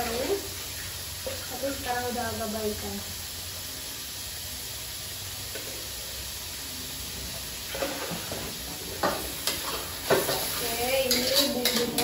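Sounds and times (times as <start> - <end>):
spice paste sizzling in hot oil: 0.0 - 12.0.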